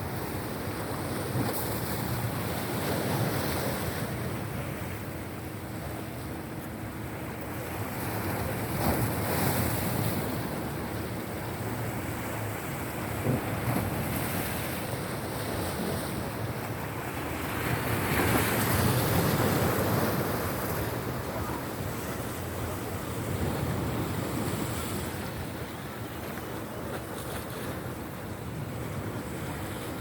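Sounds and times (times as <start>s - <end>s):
sea waves washing on shore: 0.0s - 30.0s.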